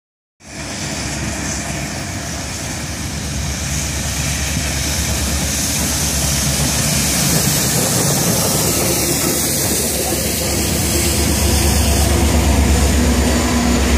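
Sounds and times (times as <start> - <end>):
steam train rumbling: 0.4 - 13.9.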